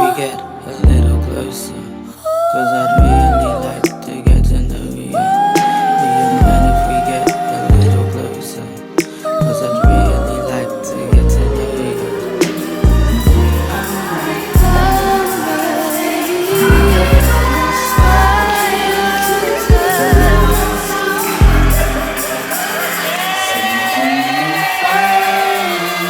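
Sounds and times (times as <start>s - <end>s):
pop music with booming bass: 0.8s - 1.5s, 2.9s - 8.4s, 9.3s - 26.0s.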